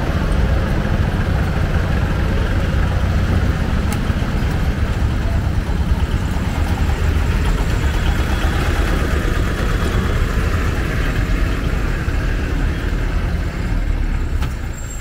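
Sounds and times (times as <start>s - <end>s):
motorised cargo cart driving past: 0.0s - 15.0s
road traffic engine noise: 0.0s - 15.0s
truck driving past: 0.0s - 15.0s.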